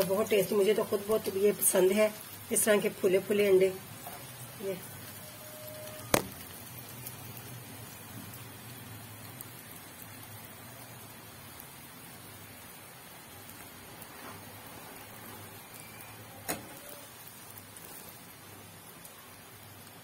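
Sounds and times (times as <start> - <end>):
omelette sizzling in a pan: 0.0 - 20.0.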